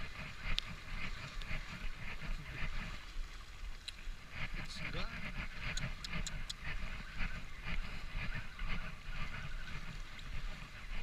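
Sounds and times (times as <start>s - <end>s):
surf washing: 0.0s - 11.0s
wind: 0.0s - 11.0s.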